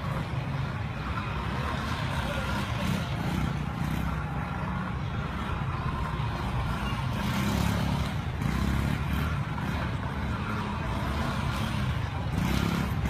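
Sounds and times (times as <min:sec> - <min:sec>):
motorbike engines running: 0:00.0 - 0:13.0.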